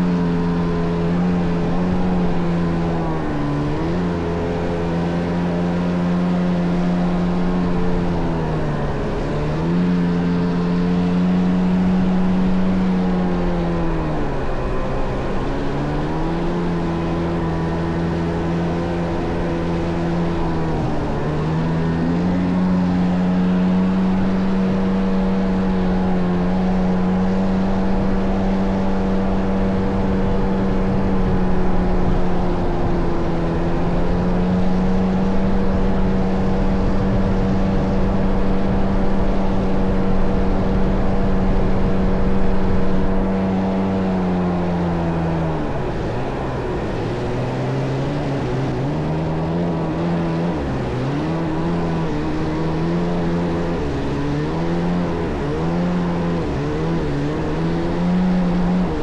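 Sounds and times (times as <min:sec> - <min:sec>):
jet ski engine running: 0:00.0 - 0:59.0.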